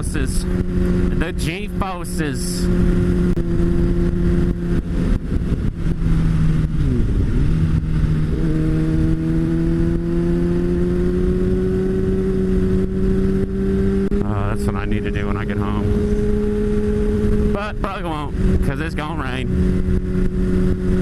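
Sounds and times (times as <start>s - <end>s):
motorcycle engine running: 0.0s - 21.0s
wind buffeting microphone: 2.6s - 21.0s.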